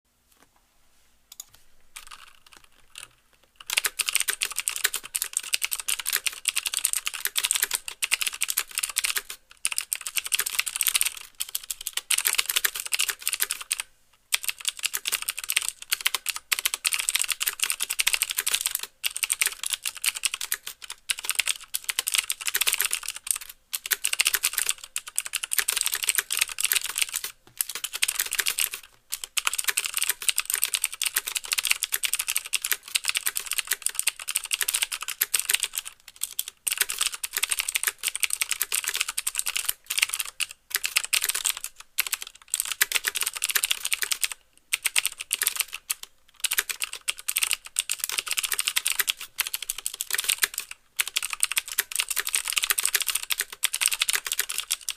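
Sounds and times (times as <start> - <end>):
mechanical keyboard typing: 1.3 - 54.9.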